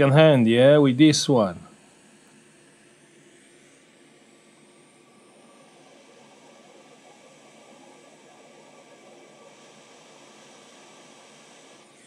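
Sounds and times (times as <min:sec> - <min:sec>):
hot air station airy hiss: 0:00.0 - 0:12.0.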